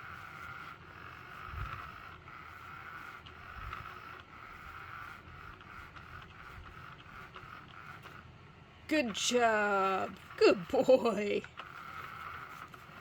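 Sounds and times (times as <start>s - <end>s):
small electric motor whine: 0.0s - 13.0s.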